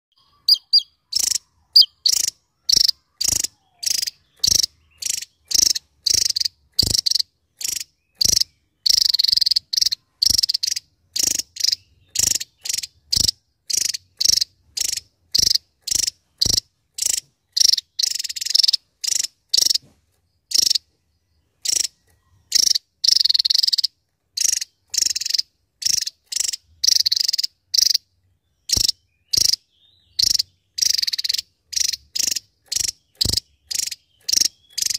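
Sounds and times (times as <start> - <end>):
bird trilling: 0.1 - 19.9, 20.5 - 20.9, 21.5 - 34.9.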